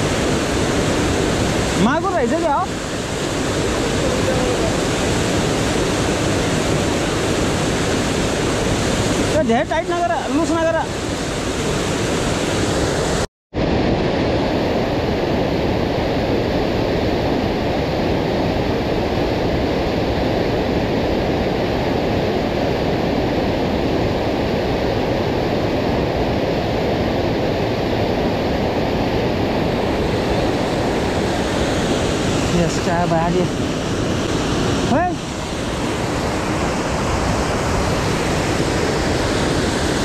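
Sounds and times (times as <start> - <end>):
river rushing through rapids: 0.0 - 40.0.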